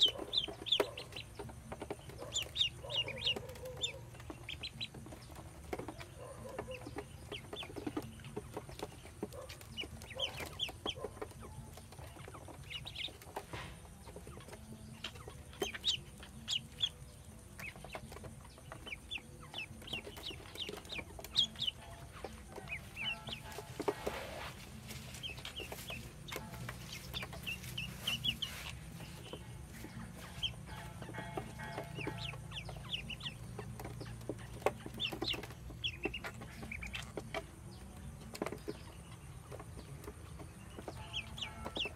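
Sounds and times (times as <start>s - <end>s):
ducklings peeping: 0.0s - 41.9s.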